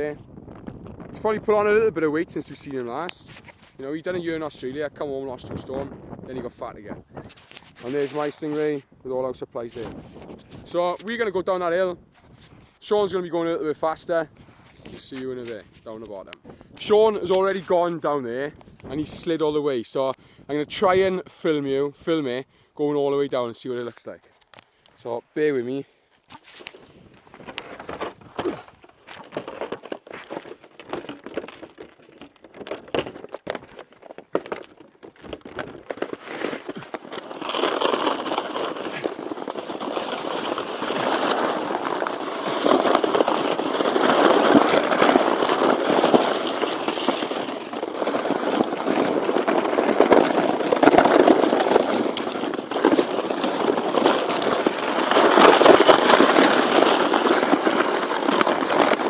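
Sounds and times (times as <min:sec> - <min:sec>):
plastic sledge sliding on snow: 0:00.8 - 0:08.8, 0:09.6 - 0:19.4, 0:26.3 - 0:59.0.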